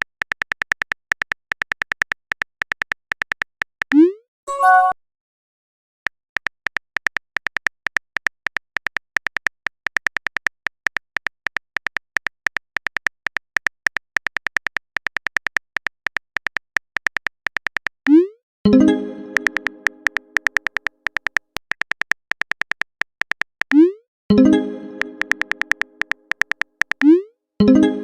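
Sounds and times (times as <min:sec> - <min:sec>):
synthetic keyboard clicks: 0:00.0 - 0:04.9, 0:06.4 - 0:27.8.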